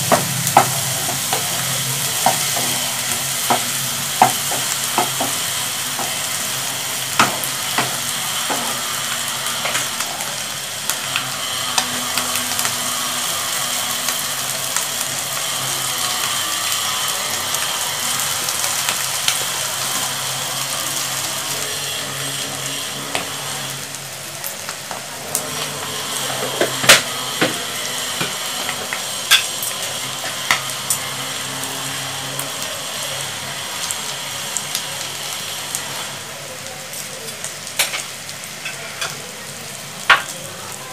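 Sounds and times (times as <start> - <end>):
vegetables sizzling in a pan: 0.0 - 40.9.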